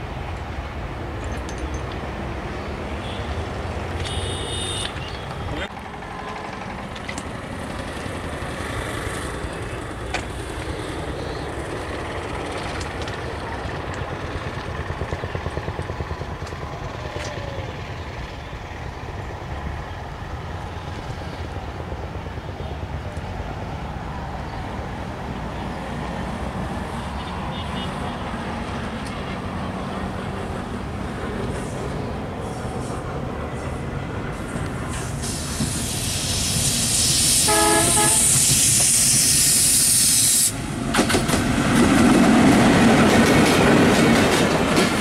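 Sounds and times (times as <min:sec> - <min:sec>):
diesel train rumbling on rails: 0:00.0 - 0:45.0.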